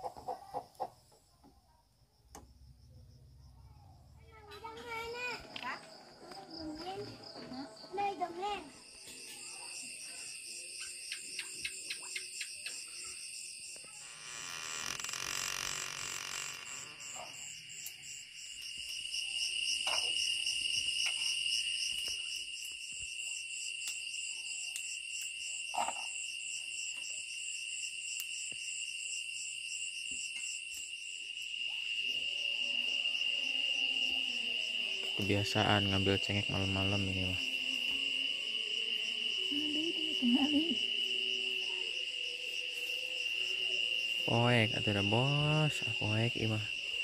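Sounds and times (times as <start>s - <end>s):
crickets and insects trilling: 0.0s - 47.0s.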